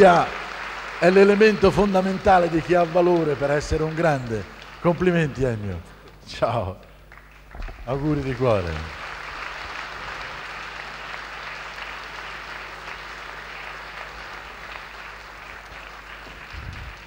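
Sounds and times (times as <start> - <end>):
audience applauding: 0.0 - 6.2, 7.0 - 17.0
low steady hum: 0.0 - 17.0.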